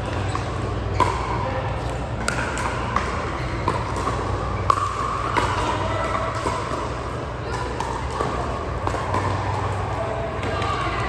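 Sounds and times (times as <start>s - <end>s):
murmur of voices: 0.0s - 11.0s.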